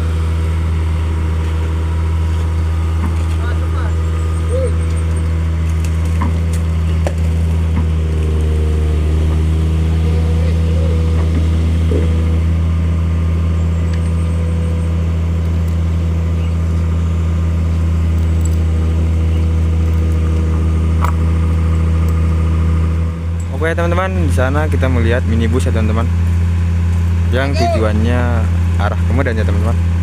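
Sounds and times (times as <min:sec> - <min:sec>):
heavy engine idling: 0:00.0 - 0:30.0.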